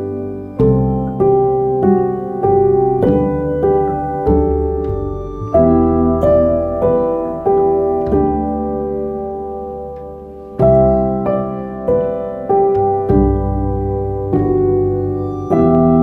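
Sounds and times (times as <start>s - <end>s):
slow solo piano music: 0.0s - 16.0s.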